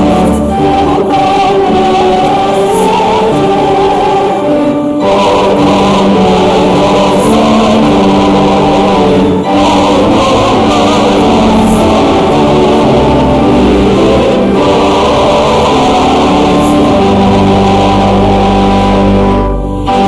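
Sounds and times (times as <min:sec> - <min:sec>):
congregation singing a hymn: 0:00.0 - 0:20.0
musical accompaniment: 0:00.0 - 0:20.0.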